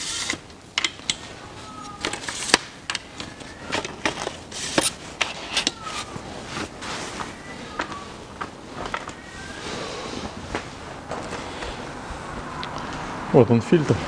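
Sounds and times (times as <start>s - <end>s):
rustling: 0.0s - 13.1s.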